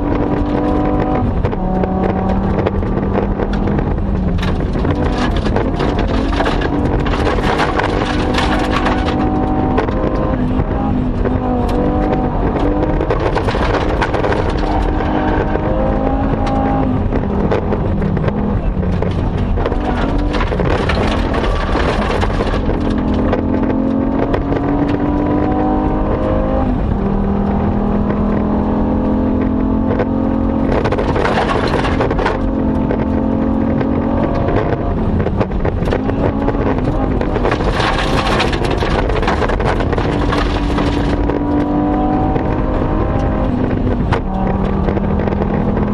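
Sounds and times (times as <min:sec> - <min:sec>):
rally car engine through gear changes: 0:00.0 - 0:45.9.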